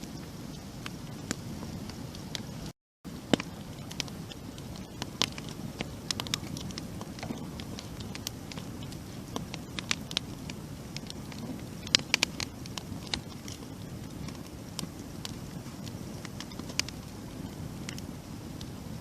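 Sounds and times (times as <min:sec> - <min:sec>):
low rush of flame: 0:00.0 - 0:19.0
wood crackling and popping: 0:00.0 - 0:19.0.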